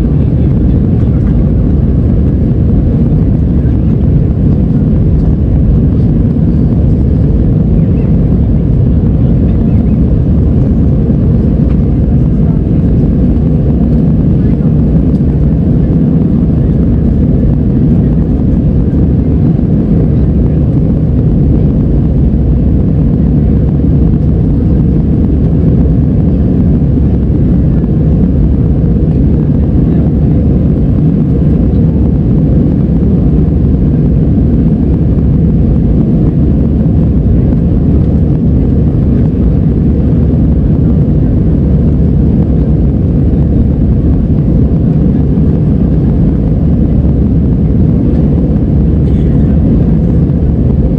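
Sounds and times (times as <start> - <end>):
jet engine drone in cabin: 0.0 - 50.9.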